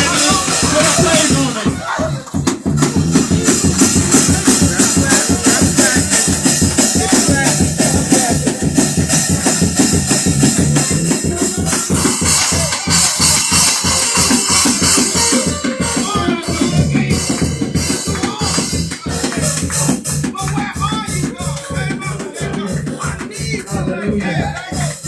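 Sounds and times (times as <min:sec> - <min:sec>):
up-tempo gospel music: 0:00.0 - 0:25.0.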